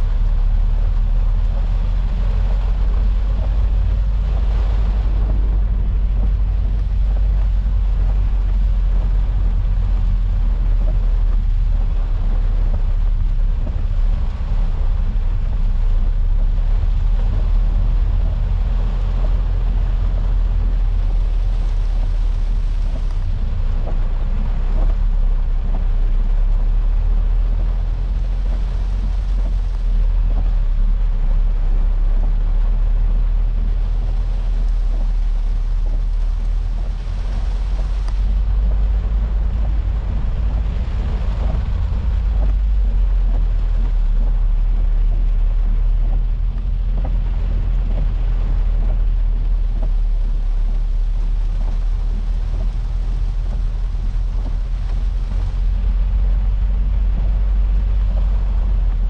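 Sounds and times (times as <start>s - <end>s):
car engine low rumble: 0.0s - 59.0s
rain hissing: 0.0s - 59.0s
wet road noise: 0.0s - 59.0s.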